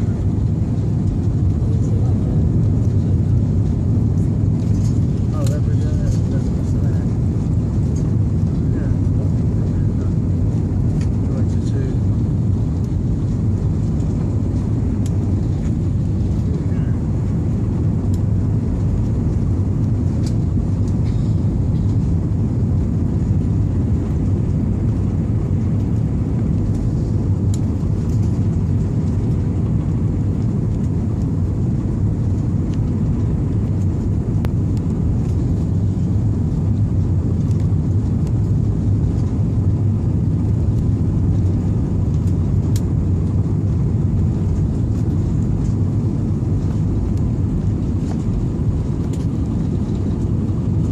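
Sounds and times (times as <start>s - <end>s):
airliner engines and airflow rumble: 0.0s - 50.9s.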